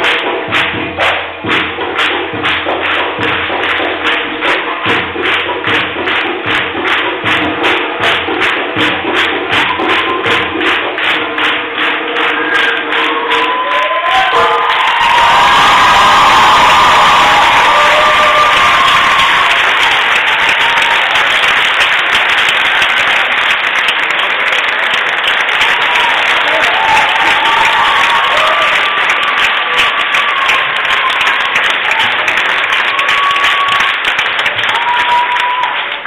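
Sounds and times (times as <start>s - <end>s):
audience clapping and cheering: 0.0s - 36.0s.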